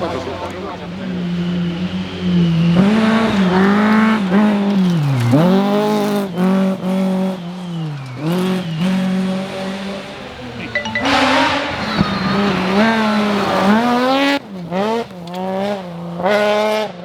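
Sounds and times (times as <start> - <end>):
rally car engine at high revs: 0.0 - 10.6, 12.0 - 17.0.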